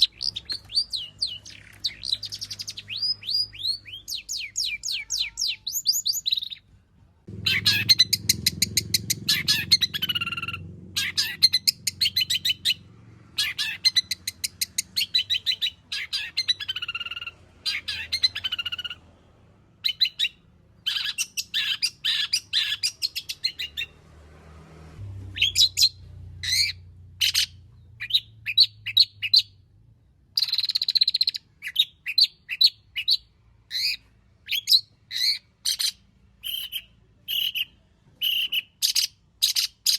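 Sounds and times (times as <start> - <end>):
shrike singing rapid varied song: 0.0 - 6.7, 7.3 - 24.1, 25.3 - 29.7, 30.4 - 39.9.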